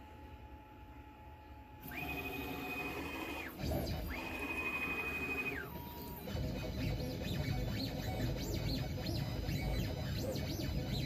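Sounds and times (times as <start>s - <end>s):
stepper motors whining: 1.9s - 11.0s.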